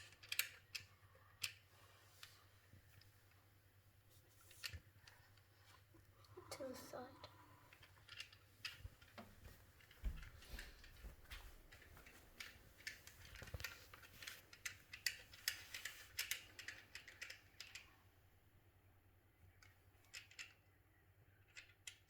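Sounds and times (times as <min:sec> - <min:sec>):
small clicks and rattles of wire: 0:00.0 - 0:18.0, 0:19.4 - 0:22.0.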